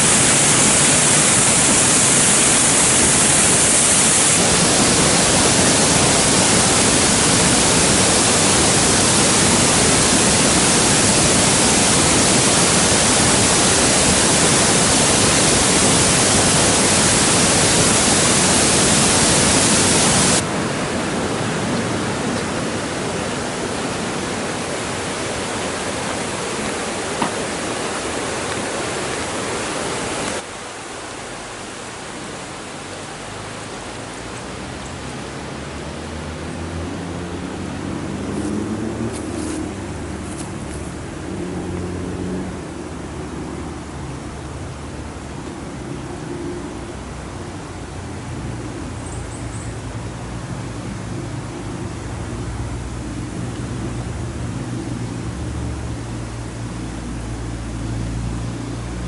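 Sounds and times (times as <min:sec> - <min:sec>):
waterfall and stream rushing: 0:00.0 - 0:59.0.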